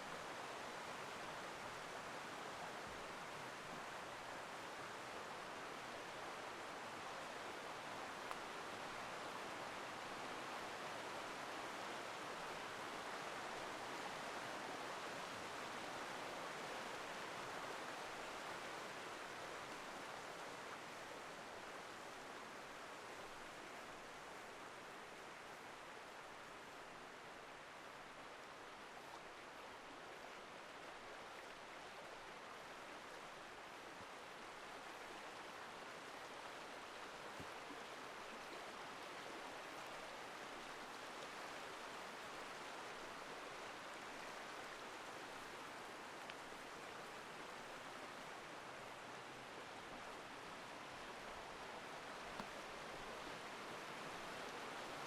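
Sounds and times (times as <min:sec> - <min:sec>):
forest stream rushing: 0:00.0 - 0:55.0.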